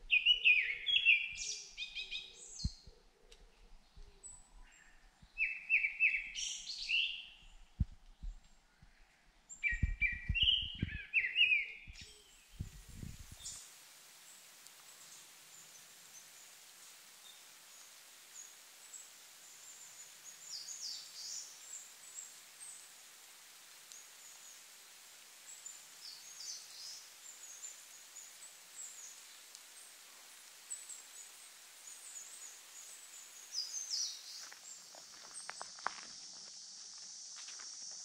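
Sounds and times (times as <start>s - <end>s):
small songbirds calling: 0.0s - 35.8s.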